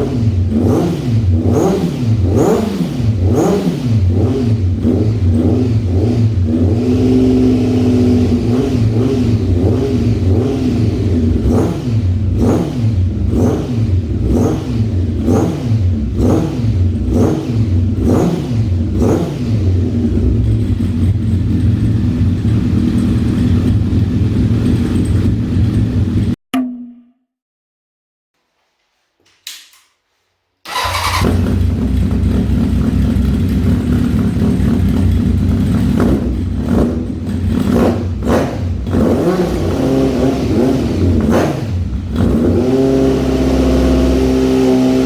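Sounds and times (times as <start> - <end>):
motorcycle engine revving: 0.0 - 26.4, 30.7 - 45.0.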